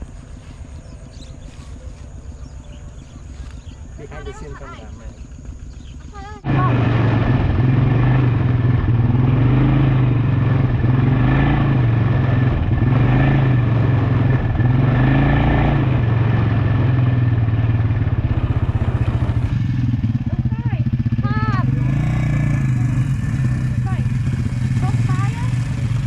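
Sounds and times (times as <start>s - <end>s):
quad bike engine revving: 4.1s - 26.0s.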